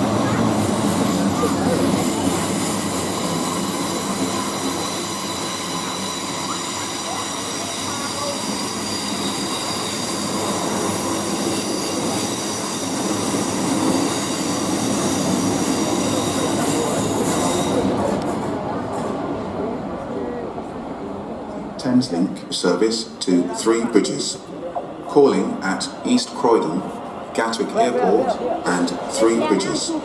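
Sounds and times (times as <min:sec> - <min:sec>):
train wheels rumbling on rail: 0:00.0 - 0:24.5.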